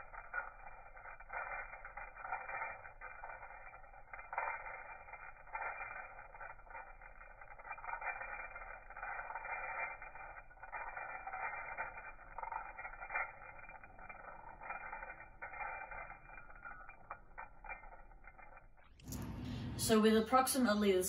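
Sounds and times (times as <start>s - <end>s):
ball bearing rolling whir: 0.0s - 21.0s.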